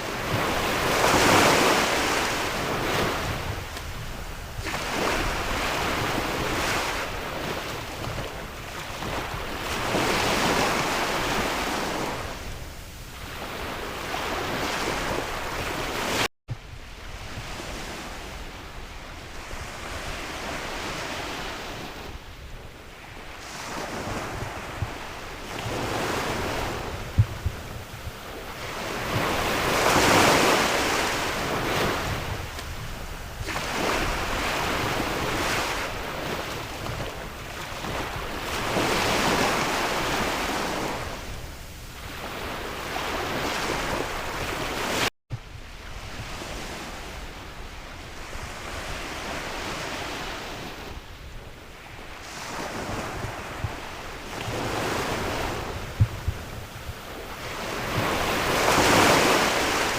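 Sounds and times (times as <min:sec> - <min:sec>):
sea waves breaking: 0:00.0 - 0:16.3, 0:17.0 - 0:22.3, 0:22.9 - 0:51.1, 0:51.7 - 0:59.9
wind buffeting microphone: 0:00.0 - 0:59.9.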